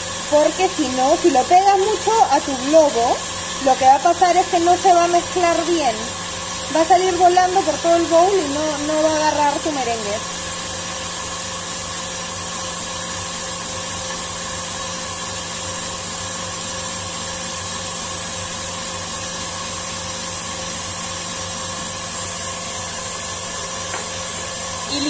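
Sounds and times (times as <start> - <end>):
stand mixer whirring: 0.0 - 25.0.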